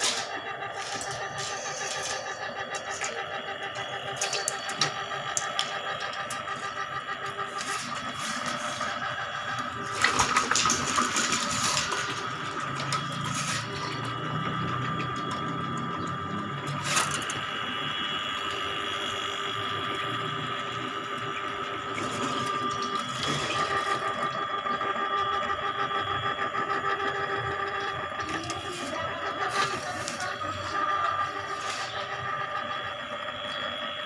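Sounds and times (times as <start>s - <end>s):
drain-cleaning machine running: 0.0s - 34.0s.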